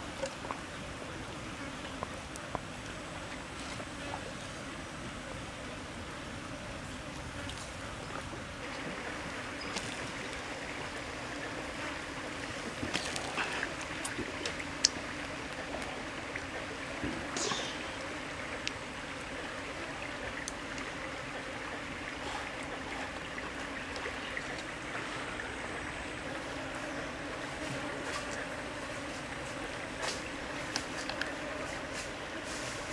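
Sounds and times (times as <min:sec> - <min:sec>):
stream flowing: 0:00.0 - 0:32.9.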